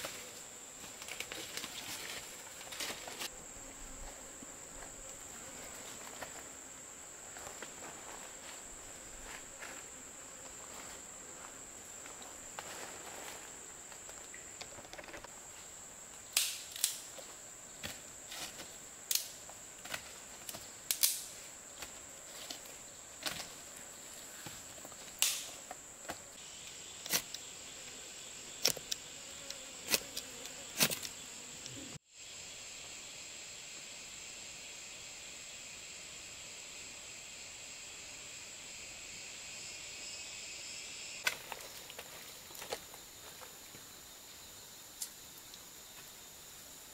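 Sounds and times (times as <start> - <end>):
forest insects droning: 0.0 - 46.9.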